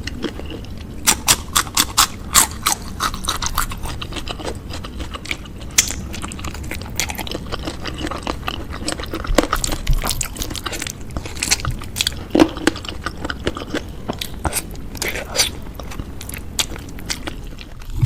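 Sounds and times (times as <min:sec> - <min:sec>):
chewing and biting food: 0:00.0 - 0:18.0.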